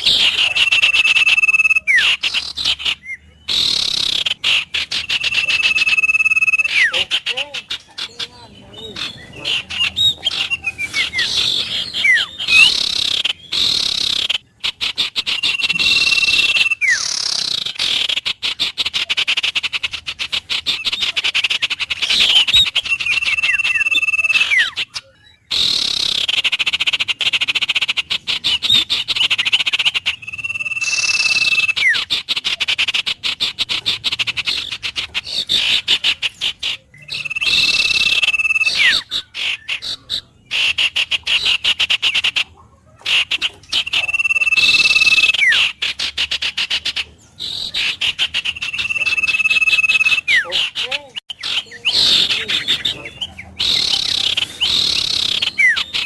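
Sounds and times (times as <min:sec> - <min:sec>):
birds whistling: 0:00.0 - 0:56.0
pulsing animal calls chorus: 0:00.0 - 0:56.0.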